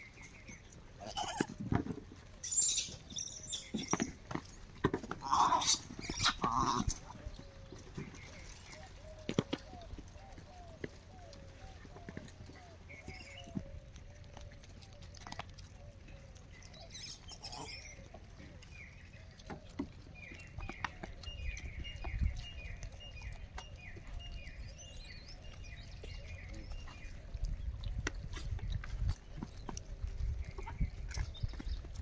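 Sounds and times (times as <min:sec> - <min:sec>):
faint clicks and rustles: 0:00.0 - 0:32.0.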